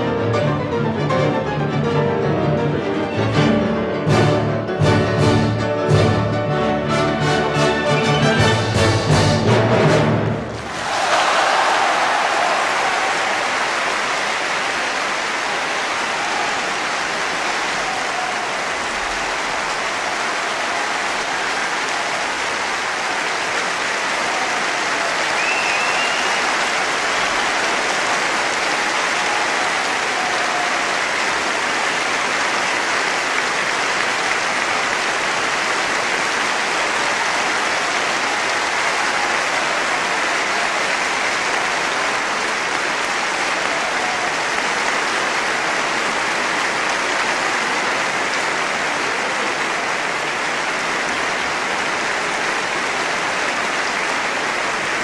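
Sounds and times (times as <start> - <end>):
large audience applauding: 5.2 - 55.0.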